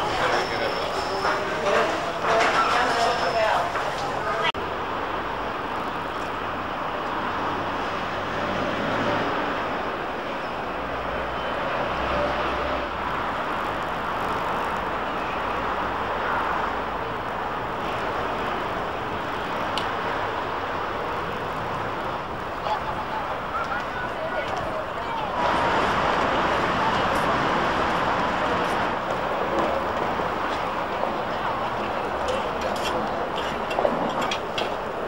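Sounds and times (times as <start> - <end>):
street traffic hum: 0.0 - 35.0.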